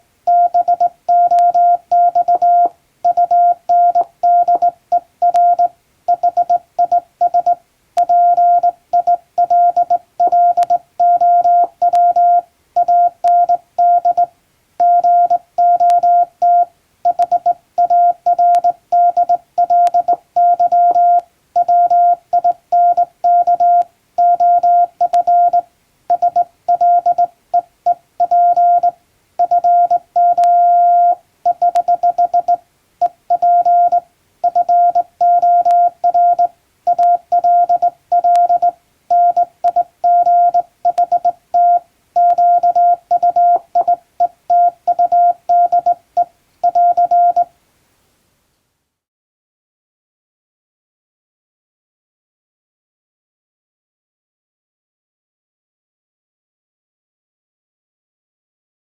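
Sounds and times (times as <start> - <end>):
morse code tone: 0.3 - 47.5.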